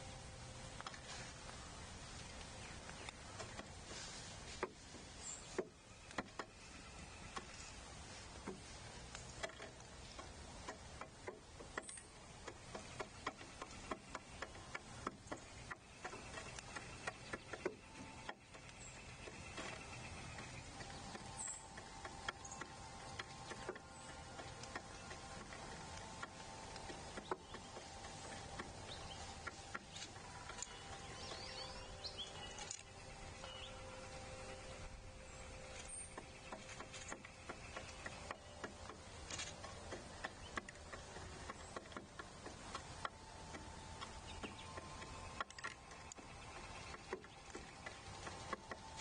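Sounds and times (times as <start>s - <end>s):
faint steady tones: 0.0s - 49.0s
pecking and tapping clicks: 5.6s - 6.6s, 8.4s - 33.8s, 35.7s - 49.0s.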